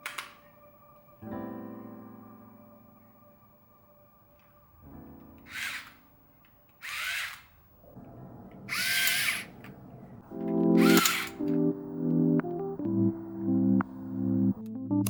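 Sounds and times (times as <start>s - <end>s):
soft background music: 0.0s - 7.8s, 10.2s - 15.0s.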